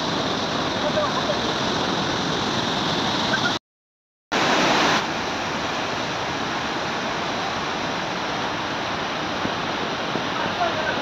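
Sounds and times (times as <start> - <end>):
waterfall roaring: 0.0 - 3.6, 4.4 - 11.0.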